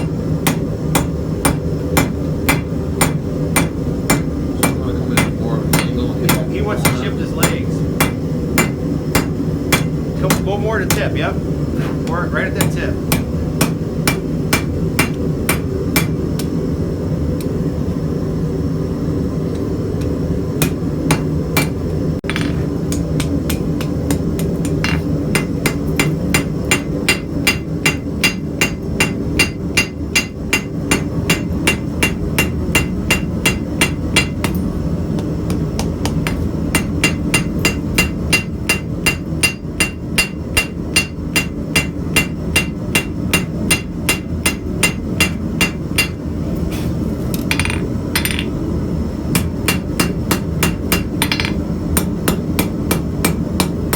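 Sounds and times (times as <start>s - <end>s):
hammer striking steel on anvil: 0.0s - 11.2s, 12.4s - 16.5s, 20.6s - 34.6s, 35.5s - 46.2s, 47.4s - 48.5s, 49.3s - 53.9s
constant low hum: 0.0s - 53.9s.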